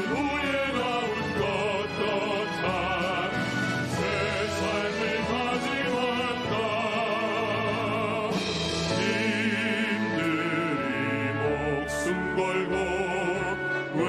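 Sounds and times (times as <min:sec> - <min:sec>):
instrumental accompaniment: 0:00.0 - 0:14.0
men singing operatically: 0:00.0 - 0:14.0.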